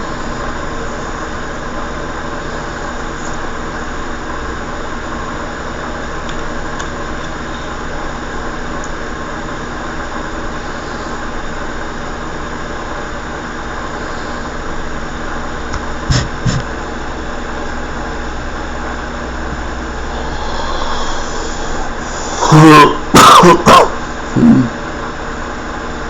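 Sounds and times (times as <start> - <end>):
room noise hum and hiss: 0.0 - 26.0.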